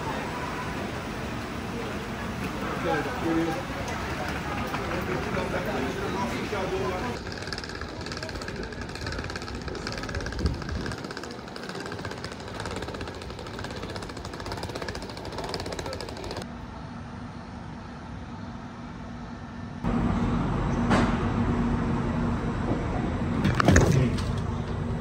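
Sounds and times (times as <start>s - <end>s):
train mechanical hum: 0.0s - 25.0s.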